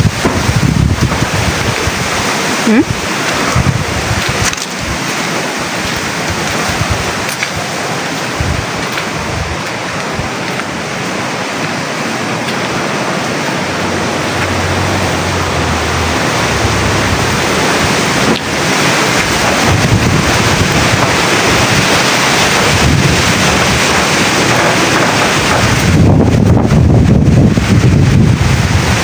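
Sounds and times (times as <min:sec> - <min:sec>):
heavy rain hiss: 0:00.0 - 0:29.0
wind rumbling on microphone: 0:00.0 - 0:29.0.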